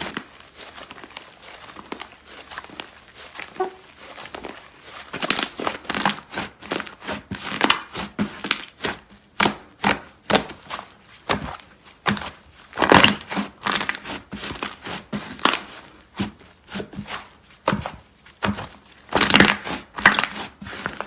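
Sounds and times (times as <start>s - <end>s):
slime squishing: 0.0s - 21.0s.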